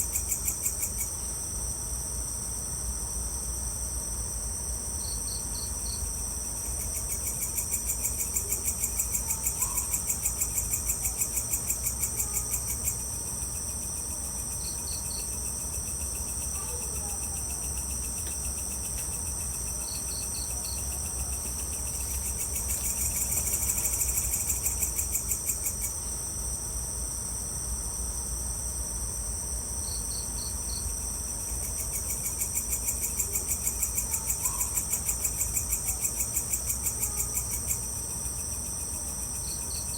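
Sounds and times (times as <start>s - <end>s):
cricket chirps: 0.0s - 39.9s
insect high-pitched buzz: 0.0s - 39.9s
pulsing insect trill: 0.0s - 39.9s.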